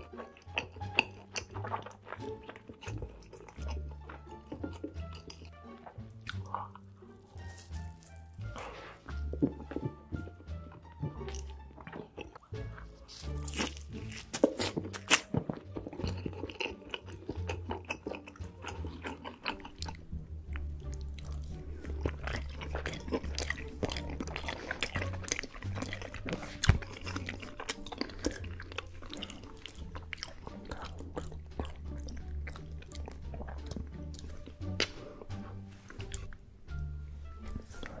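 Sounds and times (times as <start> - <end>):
background music with bass line: 0.0 - 38.0
food being chewed: 0.0 - 38.0.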